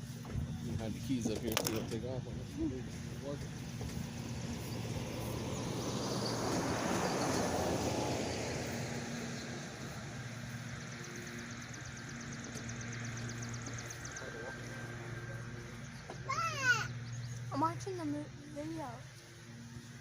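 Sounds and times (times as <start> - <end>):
high pulsing insect chirr: 0.0 - 20.0
steady low hum: 0.0 - 20.0
vehicle passing: 0.8 - 20.0.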